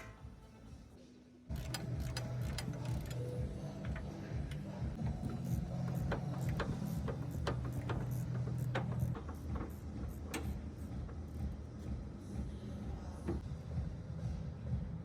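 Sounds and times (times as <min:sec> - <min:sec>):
low machine hum: 0:01.5 - 0:15.0.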